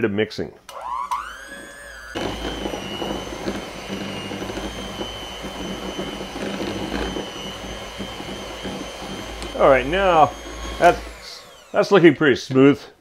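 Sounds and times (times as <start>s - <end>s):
electric hand mixer whining: 0.7s - 12.2s.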